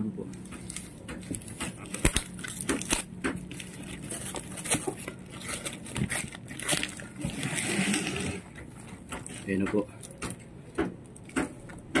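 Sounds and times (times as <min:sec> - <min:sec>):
packaging crackling and crinkling: 0:00.3 - 0:11.9.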